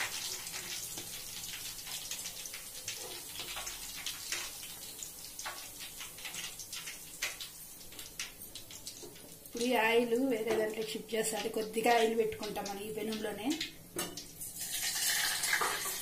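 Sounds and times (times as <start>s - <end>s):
hot oil sizzling and popping: 0.0s - 16.0s.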